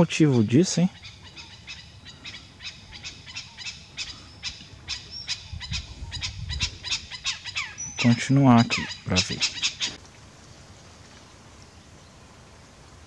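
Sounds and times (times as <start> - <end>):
birds chipping: 0.0 - 12.7.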